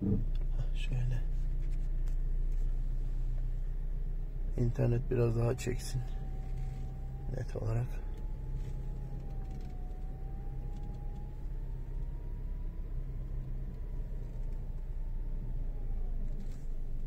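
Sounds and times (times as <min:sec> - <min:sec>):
car engine low hum: 0:00.0 - 0:17.0
faint thin whine: 0:00.1 - 0:17.0.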